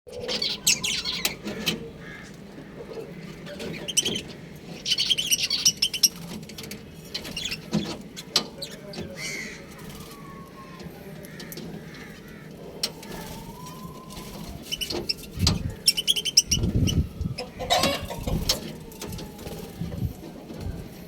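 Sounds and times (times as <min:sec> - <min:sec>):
budgerigars chirping and chattering: 0:00.1 - 0:21.0.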